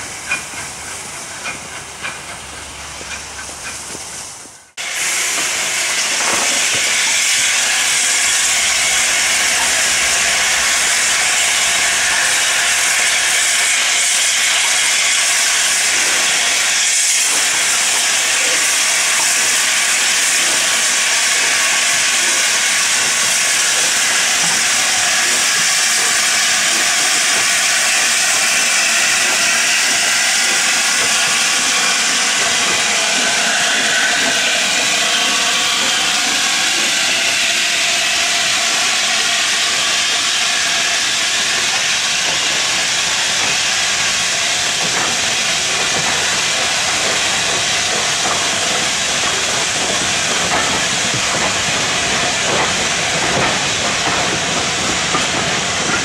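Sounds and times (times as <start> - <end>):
steam locomotive moving off: 0.0 - 56.0
loud hiss of escaping steam: 3.8 - 56.0.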